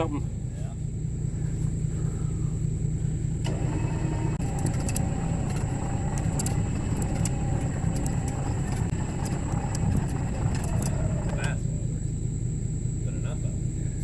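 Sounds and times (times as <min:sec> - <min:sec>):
engine rumbling: 0:00.0 - 0:14.0
mechanical whine: 0:00.0 - 0:14.0.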